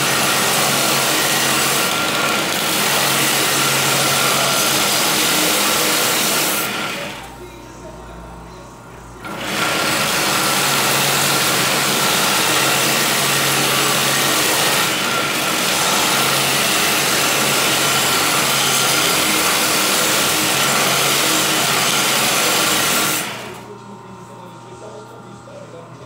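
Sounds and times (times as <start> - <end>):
belt sander motor hum: 0.0 - 7.5, 9.2 - 23.8.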